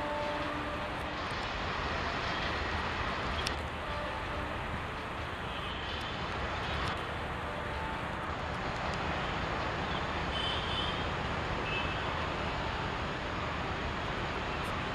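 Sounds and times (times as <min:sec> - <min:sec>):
train wheels rumbling on track: 0:00.0 - 0:14.9.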